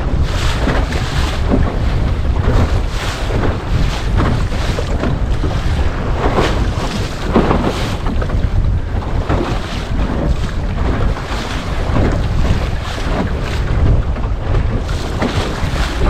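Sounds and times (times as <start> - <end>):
water splashing against hull: 0.0 - 16.0
wind buffeting microphone: 0.0 - 16.0.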